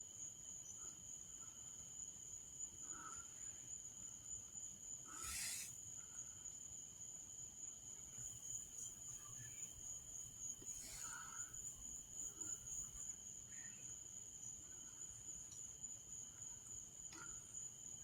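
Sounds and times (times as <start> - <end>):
crickets chirring: 0.1 - 18.0.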